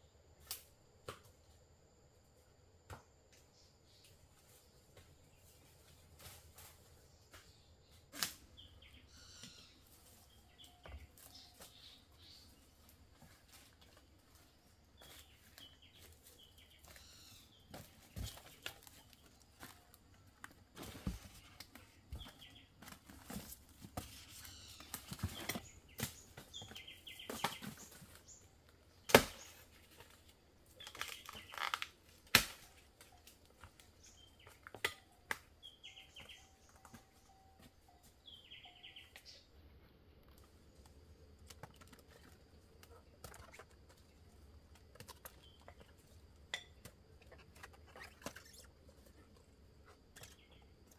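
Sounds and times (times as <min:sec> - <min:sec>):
small birds chirping: 0:07.1 - 0:31.9, 0:33.1 - 0:50.9.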